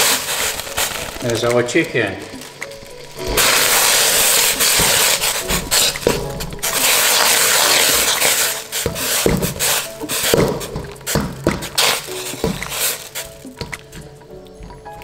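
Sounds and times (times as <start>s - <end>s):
boiling water: 0.0s - 14.8s.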